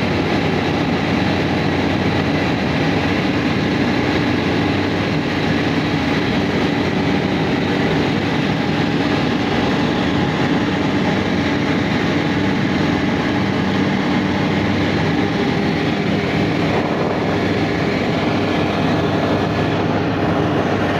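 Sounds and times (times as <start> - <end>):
airplane engine drone: 0.0 - 20.9
rushing air: 0.0 - 20.9
steady hum tones: 0.0 - 20.9.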